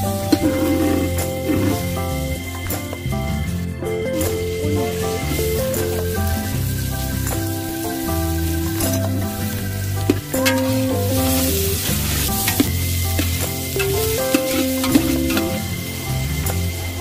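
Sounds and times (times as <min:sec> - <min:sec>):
onions sizzling in hot oil: 0:00.0 - 0:03.0, 0:03.9 - 0:17.0
instrumental background music: 0:00.0 - 0:17.0.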